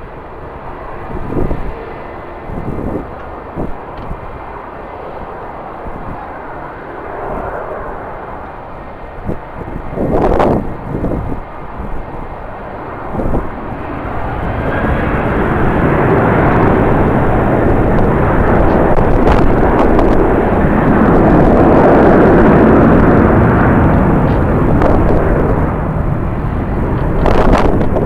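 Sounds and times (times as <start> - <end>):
jet airliner passing: 0.0 - 28.0
wind buffeting microphone: 0.0 - 28.0.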